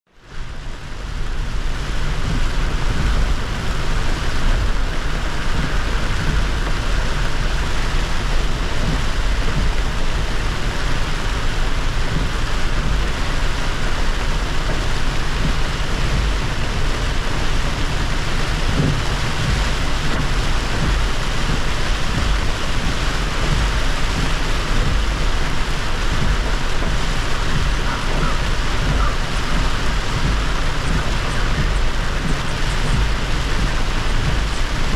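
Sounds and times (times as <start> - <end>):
low road rumble: 0.1 - 34.9
rain and tyre spray hiss: 0.1 - 34.9.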